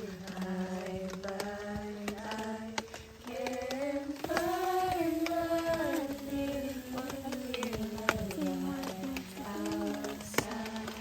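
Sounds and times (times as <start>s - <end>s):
faint clicks: 0.0s - 11.0s
voices singing long held notes: 0.0s - 11.0s.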